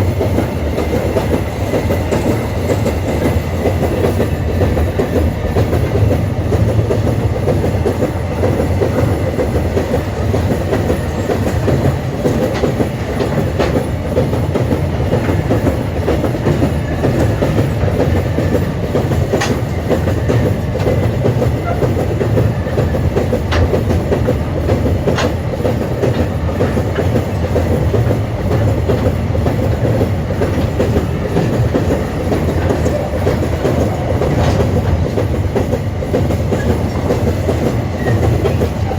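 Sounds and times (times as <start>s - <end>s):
train wheels rumbling on rails: 0.0s - 38.9s
wheels clicking over rail joints: 0.0s - 38.9s.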